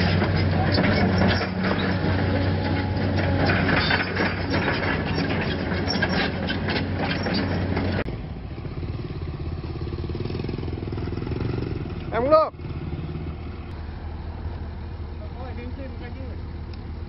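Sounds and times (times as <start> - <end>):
engine humming and rattling: 0.0 - 17.0.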